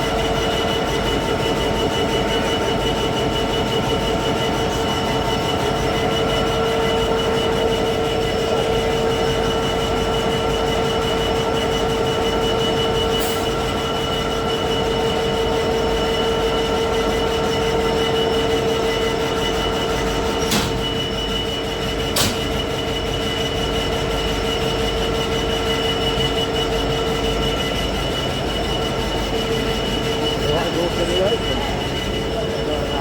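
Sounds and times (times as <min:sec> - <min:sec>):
freight train rumbling past: 0:00.0 - 0:21.0, 0:22.4 - 0:33.0.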